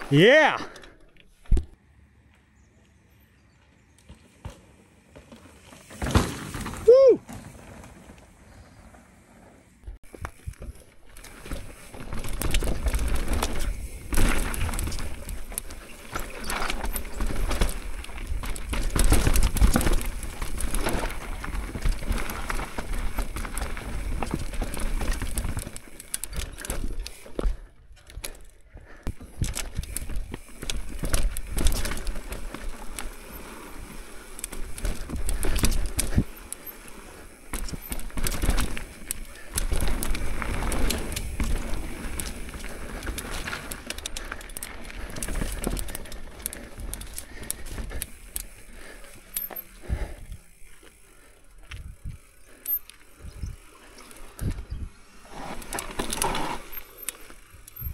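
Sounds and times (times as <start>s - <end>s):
bike tyres rolling and skidding: 2.5s - 57.9s
bike rattling and knocking: 10.0s - 57.9s.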